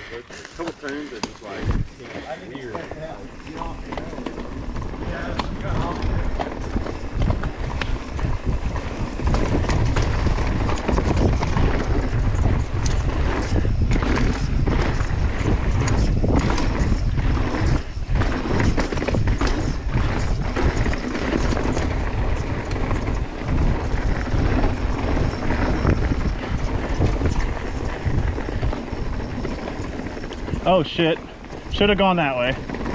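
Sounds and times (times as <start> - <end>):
wind buffeting microphone: 0.0 - 32.9
bike tyres clattering over rocks: 0.1 - 32.9.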